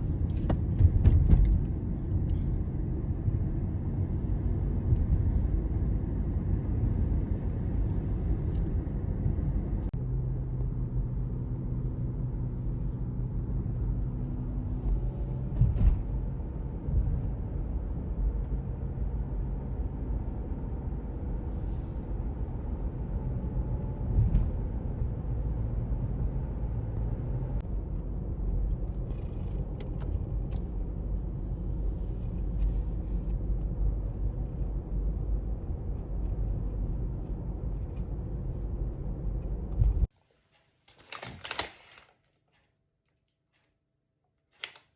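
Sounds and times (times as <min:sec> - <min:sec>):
engine and road noise: 0:00.0 - 0:40.2.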